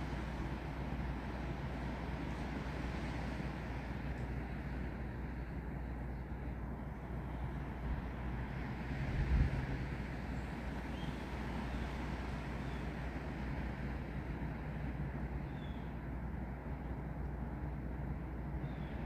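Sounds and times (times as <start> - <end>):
wind in trees: 0.0 - 19.0.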